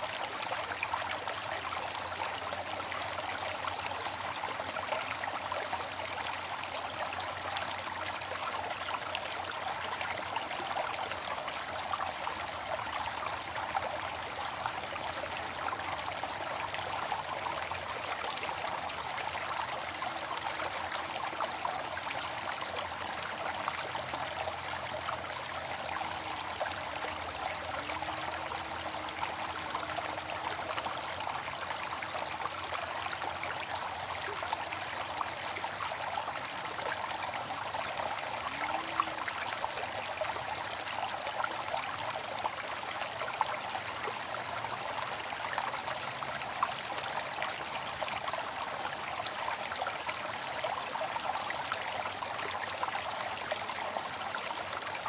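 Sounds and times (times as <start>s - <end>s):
water fountain splashing: 0.0s - 50.8s.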